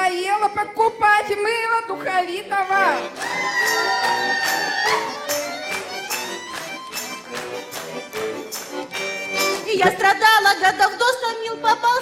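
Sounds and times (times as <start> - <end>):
button accordion playing: 0.0 - 12.0.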